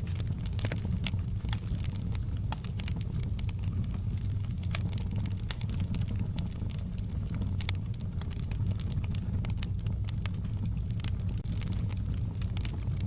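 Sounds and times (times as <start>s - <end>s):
fire crackling: 0.0s - 13.0s
low rumble of flames: 0.0s - 13.0s.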